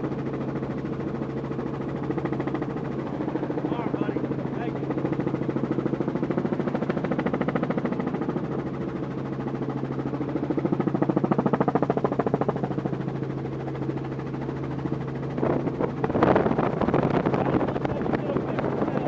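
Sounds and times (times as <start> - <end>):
helicopter engine hum: 0.0 - 19.0
helicopter rotor beat: 0.0 - 19.0.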